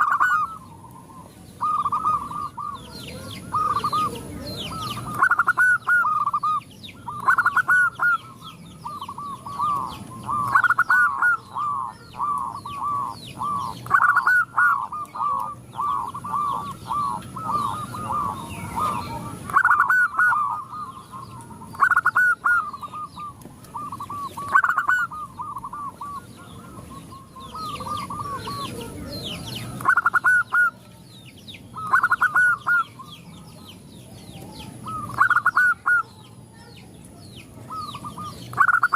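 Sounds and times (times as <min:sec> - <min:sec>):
doves cooing: 0:00.0 - 0:38.9
small birds chirping: 0:00.0 - 0:38.9.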